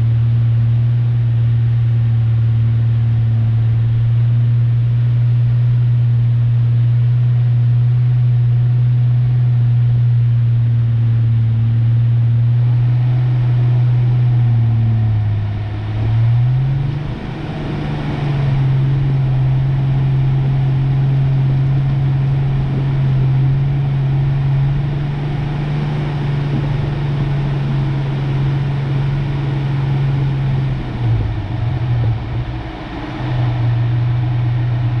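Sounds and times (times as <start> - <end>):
pickup truck engine droning: 0.0 - 35.0.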